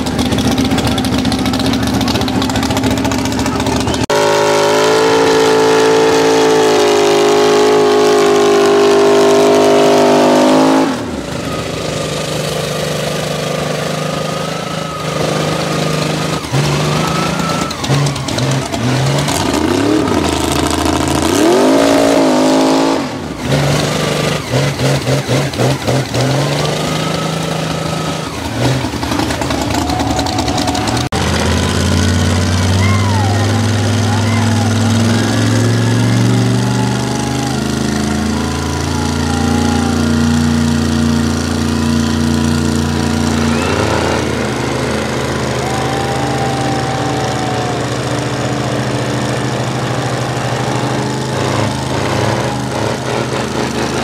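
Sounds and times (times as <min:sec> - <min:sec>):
truck engine revving: 0:00.0 - 0:54.0.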